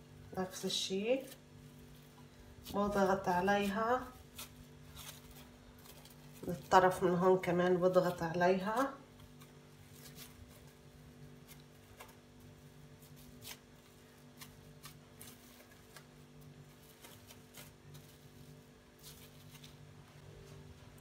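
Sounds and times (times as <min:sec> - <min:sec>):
low steady hum: 0:00.0 - 0:21.0
plastic sheet crinkling: 0:00.1 - 0:21.0.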